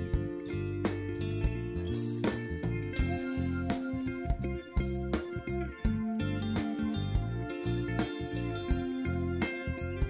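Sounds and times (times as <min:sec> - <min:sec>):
background music with plucked guitar: 0:00.0 - 0:10.0.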